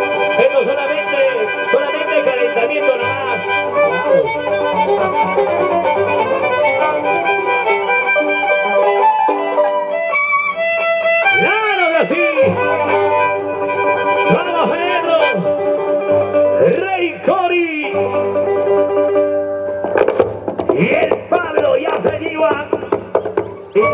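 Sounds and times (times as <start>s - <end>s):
violins playing carnival music: 0.0s - 23.9s.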